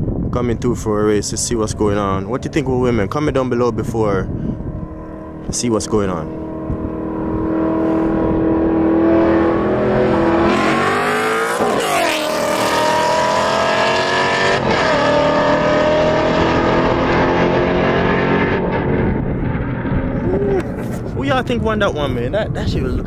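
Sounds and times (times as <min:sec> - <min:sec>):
racing car engines: 0:02.3 - 0:21.7.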